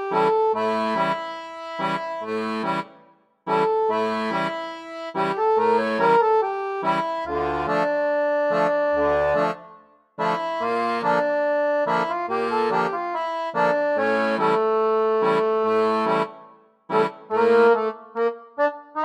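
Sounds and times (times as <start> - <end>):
accordion music: 0.0 - 19.0.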